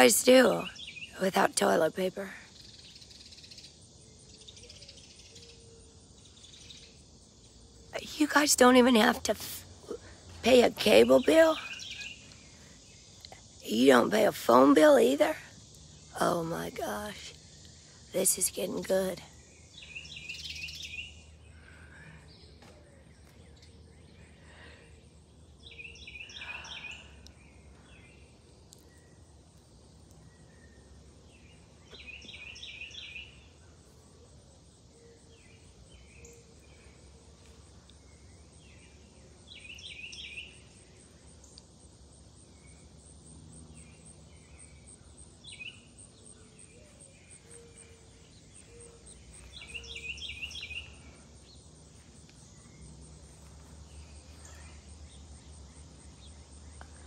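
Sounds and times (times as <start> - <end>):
low outdoor background noise: 0.0 - 57.0
songbird chirping: 0.0 - 57.0.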